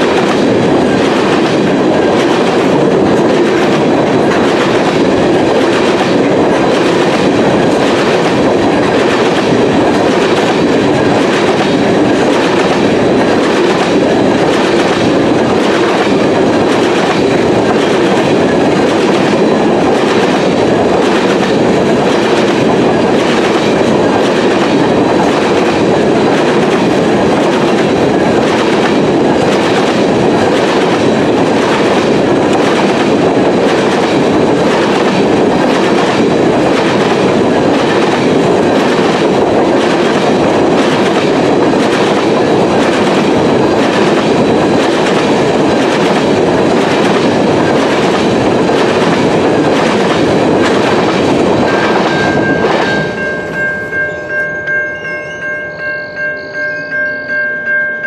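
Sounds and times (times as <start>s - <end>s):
freight train rolling past: 0.0s - 58.0s
wheels clickety-clack on rails: 0.0s - 58.0s.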